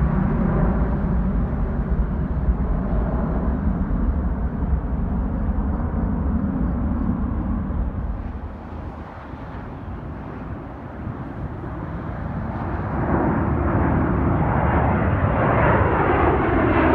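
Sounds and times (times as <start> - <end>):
jet engine roar: 0.0 - 16.9.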